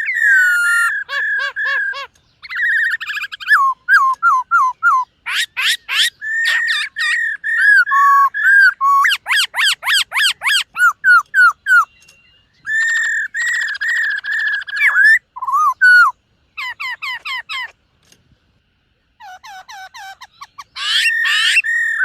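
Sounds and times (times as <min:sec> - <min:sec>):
bird singing whistled notes: 0:00.0 - 0:17.7, 0:20.0 - 0:22.0.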